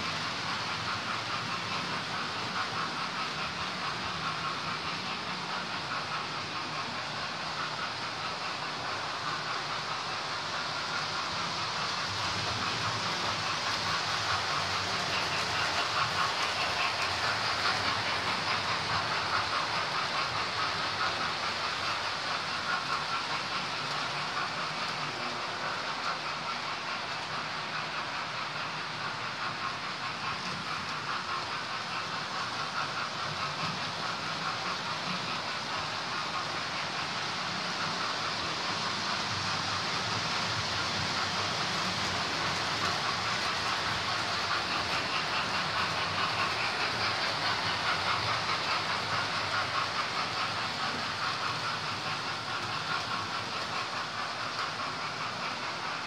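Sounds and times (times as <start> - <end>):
model trains running on track: 0.0 - 56.0.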